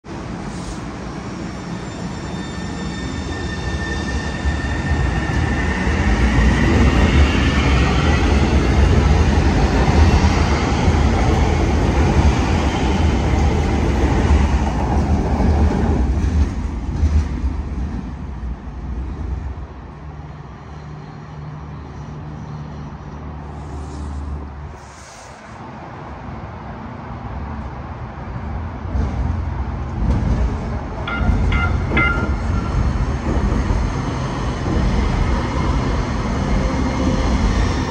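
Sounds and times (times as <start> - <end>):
train rumbling past: 0.1 - 37.9.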